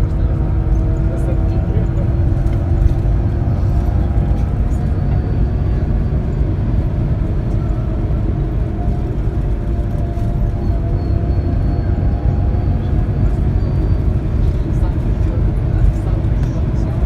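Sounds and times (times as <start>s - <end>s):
bus road rumble: 0.0s - 17.0s
faint engine hum: 0.0s - 17.0s.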